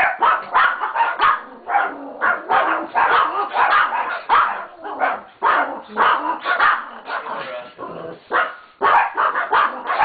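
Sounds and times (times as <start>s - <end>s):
small dog barking sharply: 0.0s - 7.3s, 8.3s - 10.0s.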